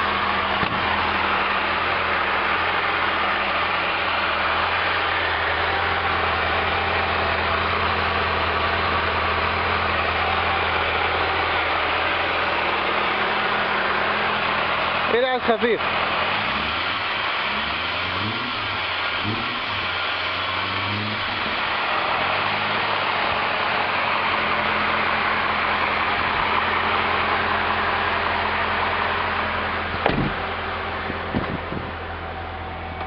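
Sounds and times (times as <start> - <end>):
car engine blipping and idling: 0.0 - 33.0.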